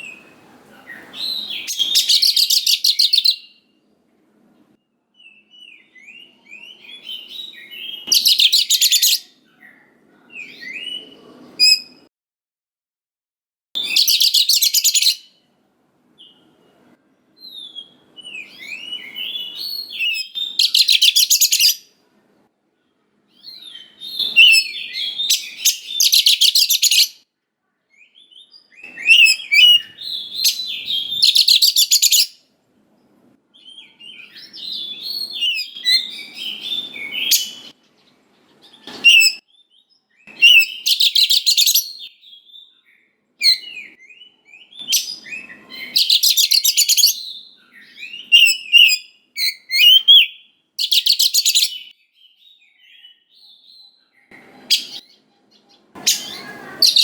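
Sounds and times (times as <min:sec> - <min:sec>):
bird singing: 0:00.9 - 0:03.7, 0:05.1 - 0:12.1, 0:13.8 - 0:15.4, 0:17.4 - 0:21.9, 0:23.3 - 0:27.2, 0:27.9 - 0:32.4, 0:33.6 - 0:57.0.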